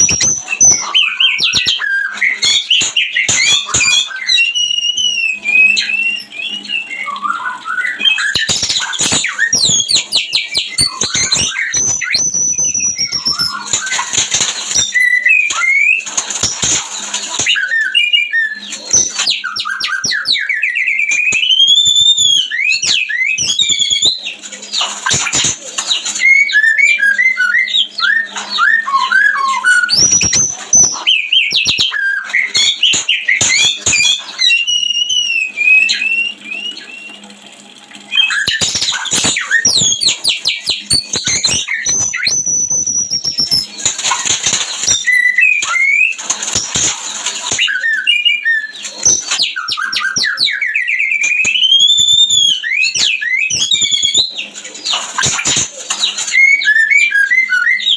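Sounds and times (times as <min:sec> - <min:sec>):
songbird whistling and trilling: 0:00.0 - 0:37.3, 0:38.1 - 0:57.9.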